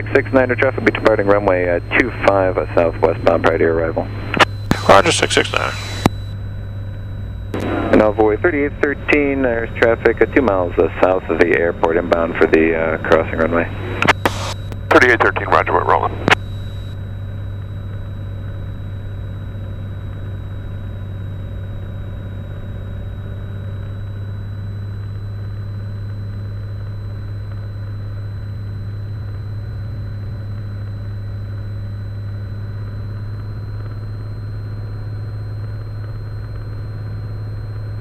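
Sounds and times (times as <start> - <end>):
propeller plane engine droning: 0.0 - 38.0.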